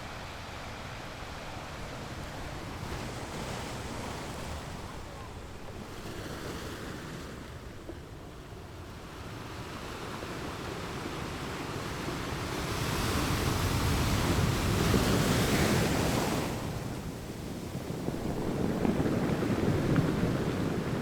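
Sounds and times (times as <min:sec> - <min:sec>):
sea waves washing in: 0:00.0 - 0:21.0.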